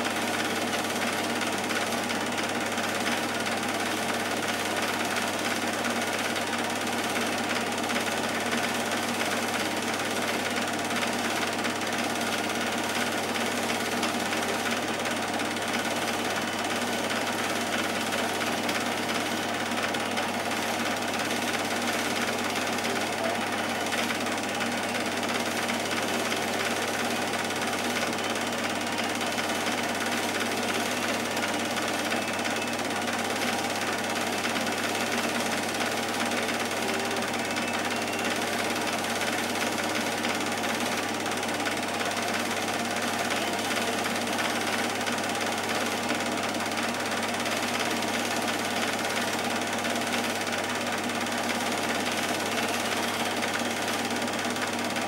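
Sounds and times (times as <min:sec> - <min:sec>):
film projector clatter and hum: 0:00.0 - 0:55.0.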